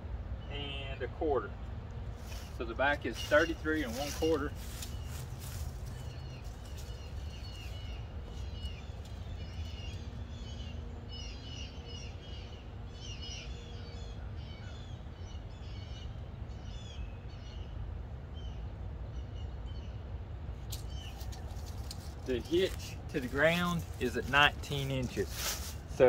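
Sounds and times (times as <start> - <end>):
low background rumble: 0.0 - 26.0
birds chirping: 0.3 - 26.0.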